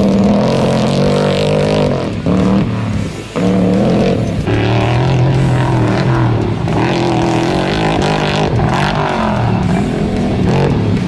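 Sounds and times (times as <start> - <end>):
race truck engine revving: 0.0 - 11.0.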